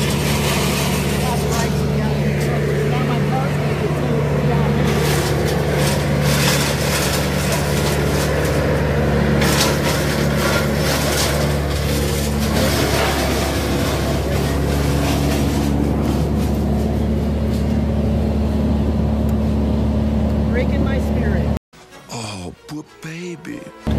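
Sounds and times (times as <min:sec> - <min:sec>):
car engine and road noise: 0:00.0 - 0:21.6.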